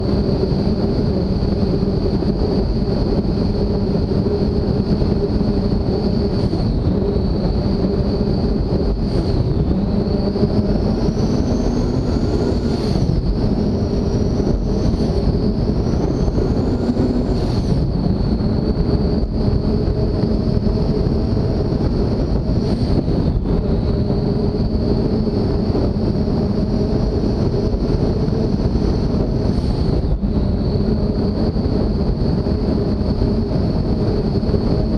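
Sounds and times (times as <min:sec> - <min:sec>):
race boat engines droning: 0:00.0 - 0:31.9
wind on microphone: 0:00.0 - 0:34.9.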